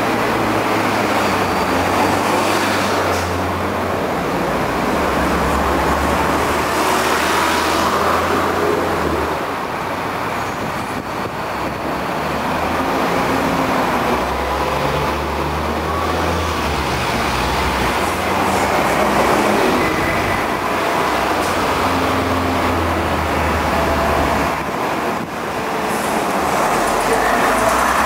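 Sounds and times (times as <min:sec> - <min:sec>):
diesel bus engines rumbling: 0:00.0 - 0:28.0.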